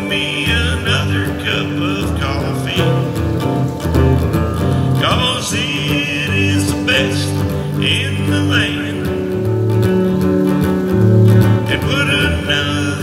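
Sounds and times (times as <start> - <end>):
electric guitar country rhythm: 0.0 - 13.0.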